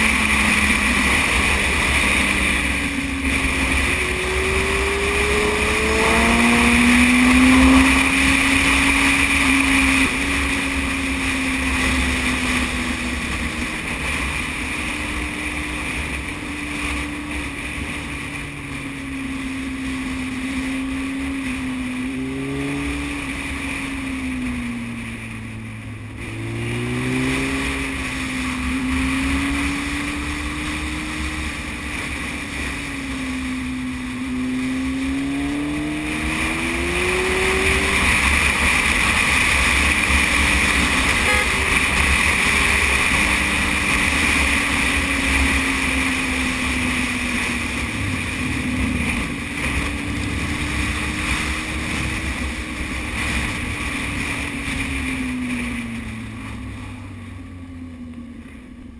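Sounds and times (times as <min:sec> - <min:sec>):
low wind rumble: 0:00.0 - 0:58.9
motorcycle engine accelerating: 0:00.0 - 0:58.9.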